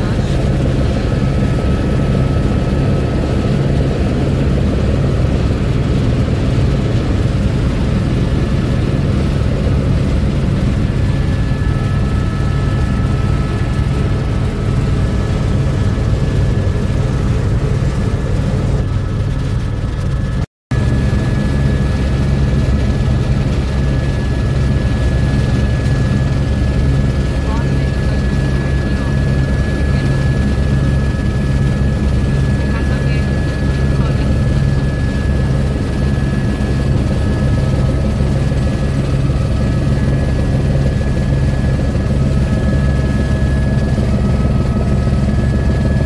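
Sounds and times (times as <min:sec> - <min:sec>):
helicopter cabin drone: 0:00.0 - 0:46.0.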